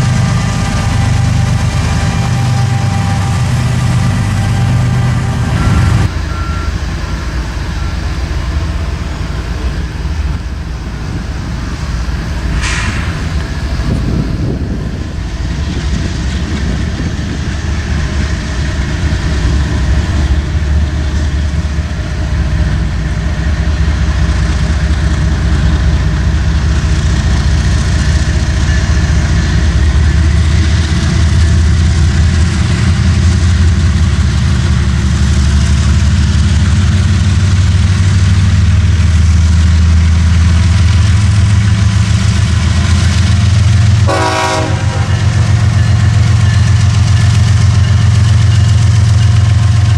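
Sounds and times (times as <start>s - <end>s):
diesel locomotive engine throbbing: 0.0s - 49.9s.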